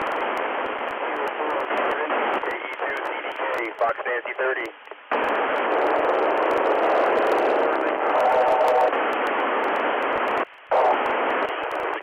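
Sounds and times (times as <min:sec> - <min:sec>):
radio static hissing: 0:00.0 - 0:12.0.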